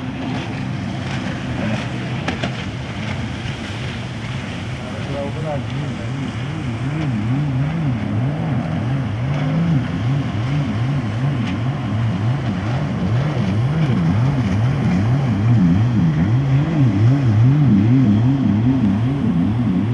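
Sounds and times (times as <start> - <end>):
racing powerboat engines: 0.0 - 19.9.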